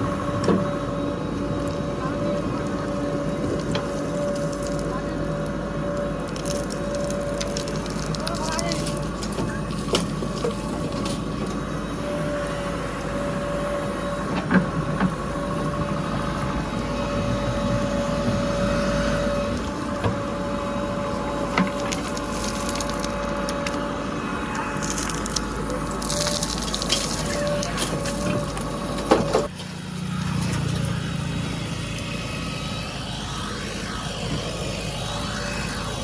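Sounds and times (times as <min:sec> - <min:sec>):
diesel machinery whining: 0:00.0 - 0:36.0.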